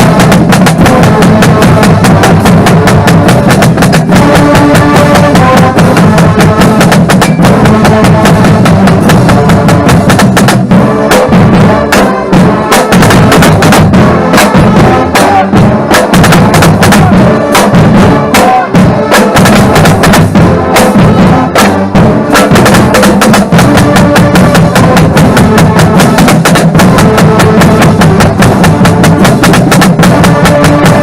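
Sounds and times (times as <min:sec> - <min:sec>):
drumline playing rapid strokes: 0:00.0 - 0:31.0.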